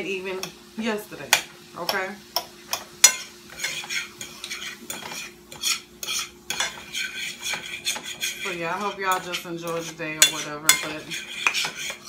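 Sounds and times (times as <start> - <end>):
vegetables sizzling: 0.0 - 12.0
fork scraping a skillet: 1.9 - 12.0.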